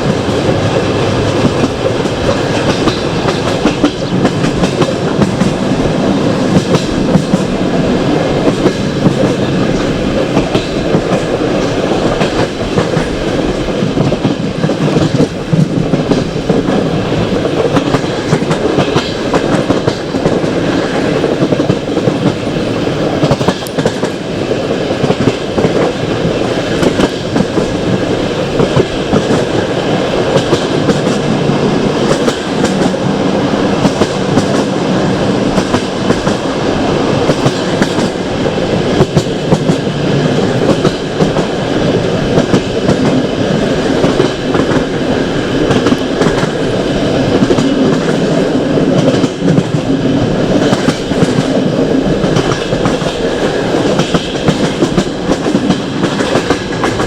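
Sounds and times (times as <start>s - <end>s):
clicking over rail joints: 0.0s - 22.5s, 23.1s - 24.3s, 24.9s - 57.0s
train wheels rumbling on rails: 0.0s - 57.0s.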